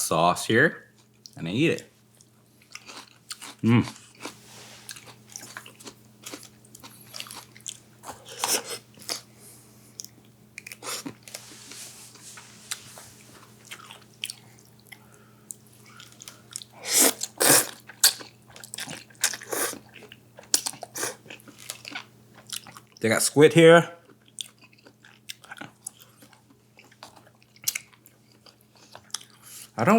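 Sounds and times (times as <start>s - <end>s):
faint steady hum: 0.0s - 29.9s
chewing and crunching onion: 2.1s - 9.3s, 10.0s - 11.4s, 12.1s - 23.0s, 24.0s - 29.8s.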